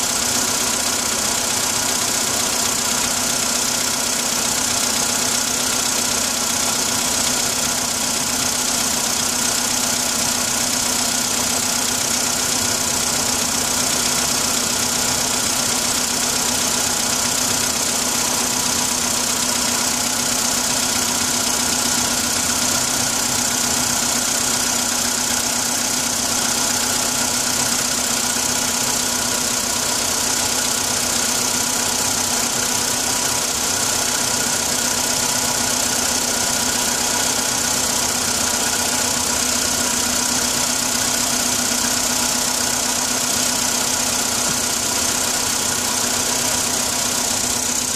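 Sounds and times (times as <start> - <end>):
cold engine idling with knock: 0.0 - 47.9.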